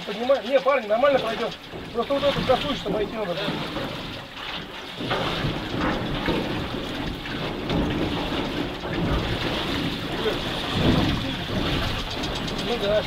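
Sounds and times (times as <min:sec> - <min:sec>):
river water rushing: 0:00.8 - 0:13.0.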